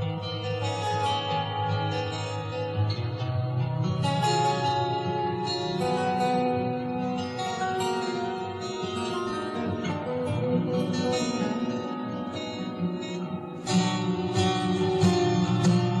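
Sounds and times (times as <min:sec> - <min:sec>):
layered guitars playing: 0:00.0 - 0:16.0.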